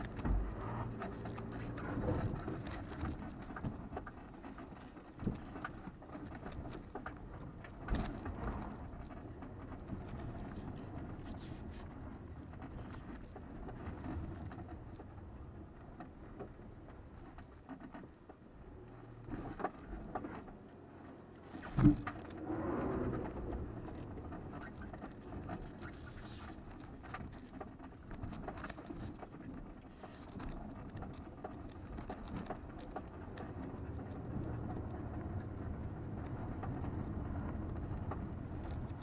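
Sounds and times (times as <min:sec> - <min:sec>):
car rumbling over rough trail: 0:00.0 - 0:39.0.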